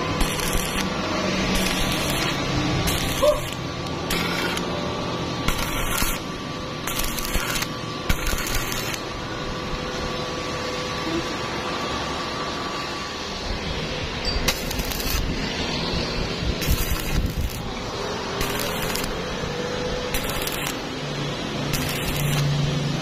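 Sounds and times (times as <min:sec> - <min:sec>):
welding arc crackling: 0:00.0 - 0:09.6, 0:13.6 - 0:23.0.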